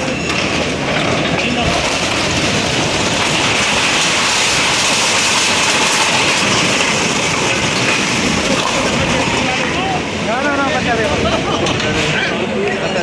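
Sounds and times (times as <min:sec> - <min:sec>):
falling concrete and debris: 0:00.0 - 0:13.0.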